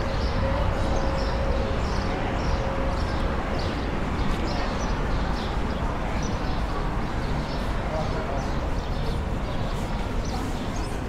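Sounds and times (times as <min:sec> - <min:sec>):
city ambience hum: 0:00.0 - 0:11.0.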